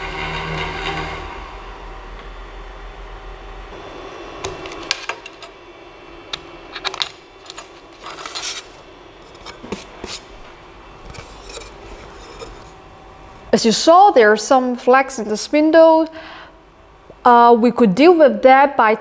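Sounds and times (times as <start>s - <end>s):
spindle whine: 0.0s - 17.2s.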